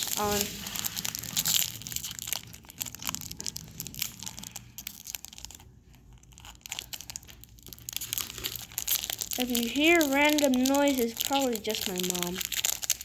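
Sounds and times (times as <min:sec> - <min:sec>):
foil wrappers crinkling: 0:00.0 - 0:13.0.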